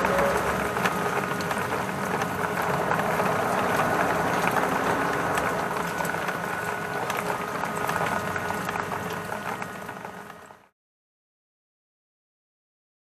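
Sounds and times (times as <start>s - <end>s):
heavy rain on a tarpaulin: 0.0s - 10.8s.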